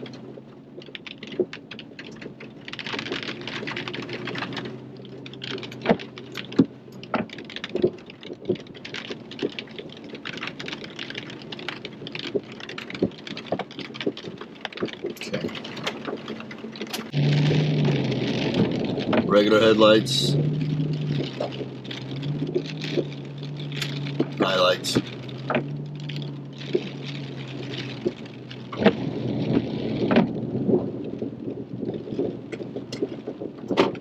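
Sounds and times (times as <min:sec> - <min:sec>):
low engine hum: 0:00.0 - 0:34.0
rain tapping on a vehicle roof: 0:00.0 - 0:34.0.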